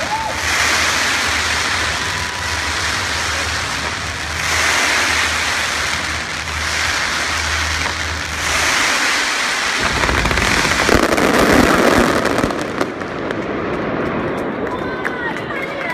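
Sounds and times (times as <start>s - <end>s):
fireworks crackling: 0.0s - 15.9s
low firework booms: 0.4s - 14.6s.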